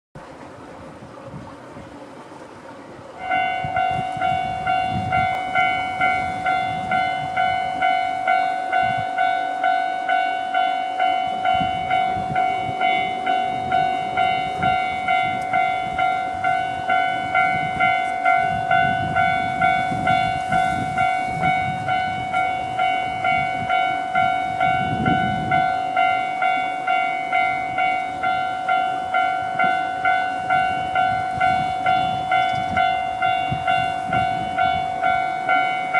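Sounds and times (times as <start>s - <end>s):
level crossing warning bell: 3.2s - 35.9s.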